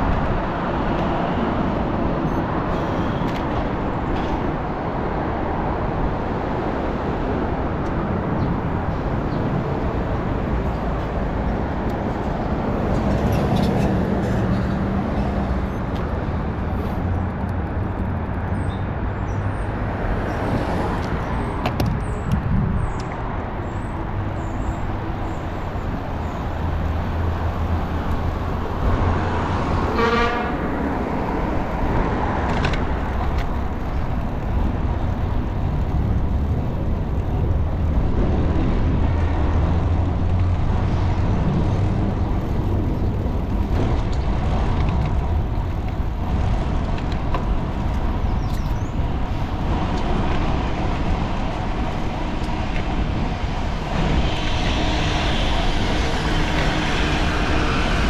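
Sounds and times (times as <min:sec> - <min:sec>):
car and bus engines passing: 0:00.0 - 0:58.0
road noise rush: 0:00.0 - 0:58.0.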